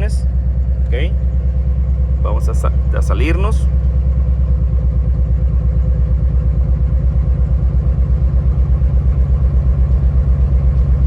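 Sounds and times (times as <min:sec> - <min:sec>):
misfiring car engine idling: 0:00.0 - 0:11.0.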